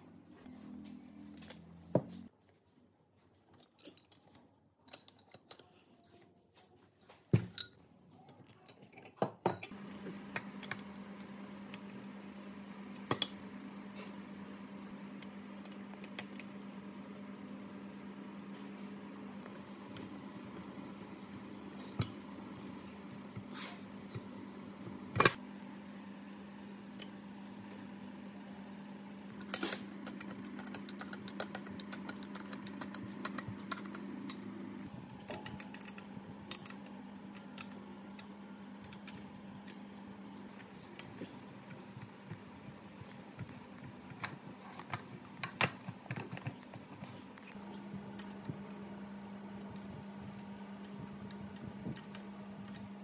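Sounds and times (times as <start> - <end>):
steady low hum: 9.7 - 53.0.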